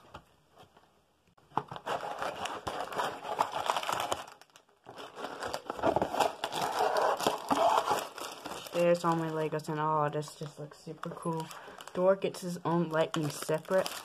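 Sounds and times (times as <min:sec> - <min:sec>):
plastic bags crinkling: 0:01.7 - 0:14.0.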